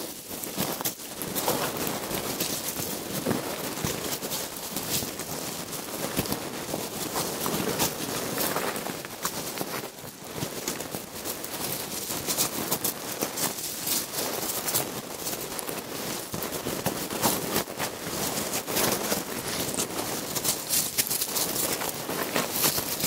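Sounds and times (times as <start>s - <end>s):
dry crackling and scratching: 0.0s - 23.0s.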